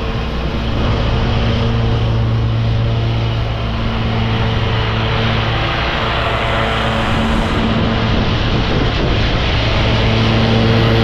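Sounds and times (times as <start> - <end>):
lawn mower engine running: 0.0 - 11.0
mower blades mulching leaves: 0.0 - 11.0.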